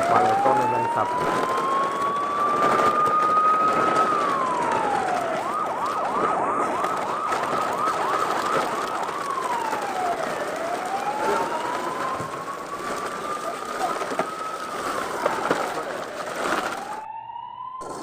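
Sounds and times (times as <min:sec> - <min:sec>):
electronic siren wailing and yelping: 0:00.0 - 0:15.5, 0:16.8 - 0:18.0.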